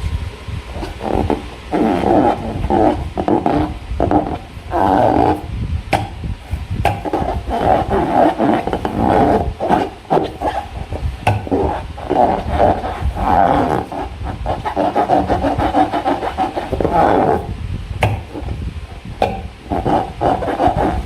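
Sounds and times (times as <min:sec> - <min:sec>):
rubbery squeaks of balloons: 0:00.7 - 0:21.0.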